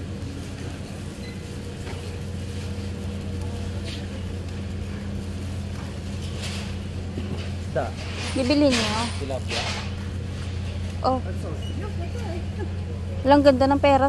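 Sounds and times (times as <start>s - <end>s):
low machinery hum: 0.0s - 14.0s.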